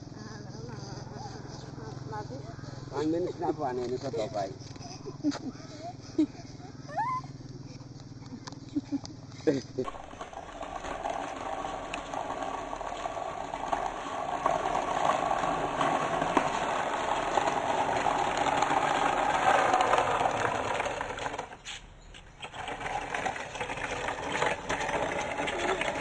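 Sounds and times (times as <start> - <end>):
cart wheels rolling on concrete: 0.0 - 26.0.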